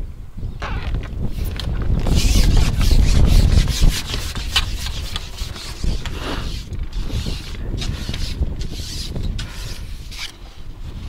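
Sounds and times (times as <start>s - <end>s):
wind rumble on microphone: 0.0s - 11.0s
scraping and rubbing: 0.6s - 11.0s.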